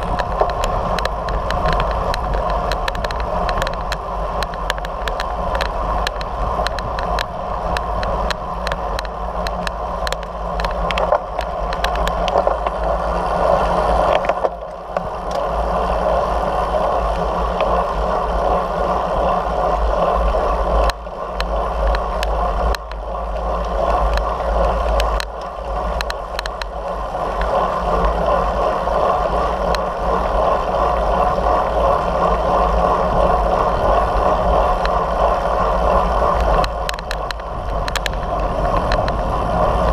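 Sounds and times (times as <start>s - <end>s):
small clicks and rattles: 0.0s - 39.9s
tyre noise on asphalt: 0.0s - 39.9s
wind rushing over microphone: 0.0s - 39.9s.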